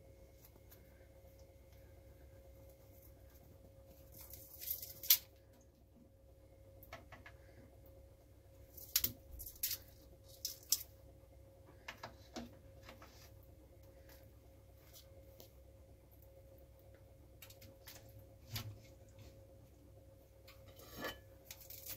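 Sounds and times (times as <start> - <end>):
faint steady hum: 0.0 - 21.9.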